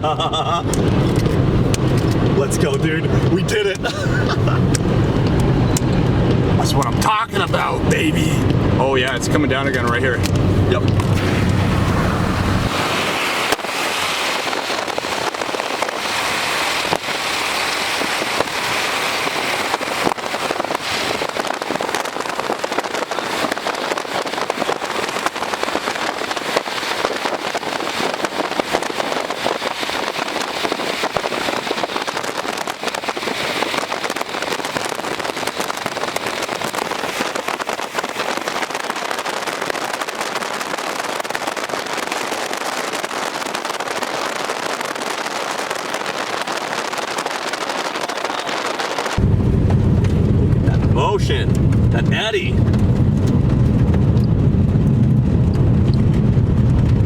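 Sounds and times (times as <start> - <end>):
rain hitting a car: 0.0 - 57.0.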